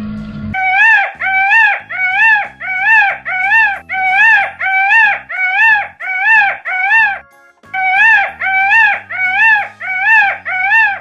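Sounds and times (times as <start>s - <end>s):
background music: 0.0s - 11.0s
high whining animal call: 0.6s - 7.2s, 7.8s - 11.0s.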